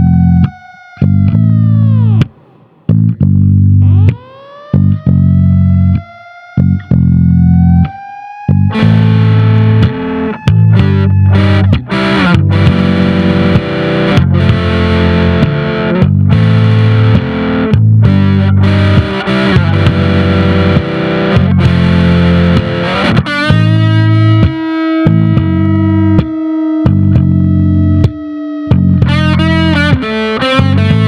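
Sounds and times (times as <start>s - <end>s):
distorted electric guitar blues: 0.0s - 31.0s.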